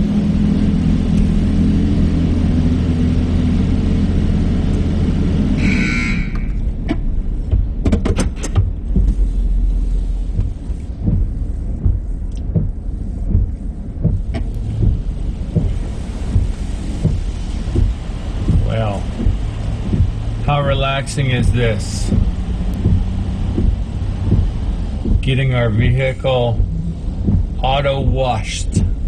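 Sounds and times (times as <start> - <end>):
low thumps and clicks: 0.0 - 5.6, 6.3 - 29.0
car wash machine hum: 0.0 - 29.0.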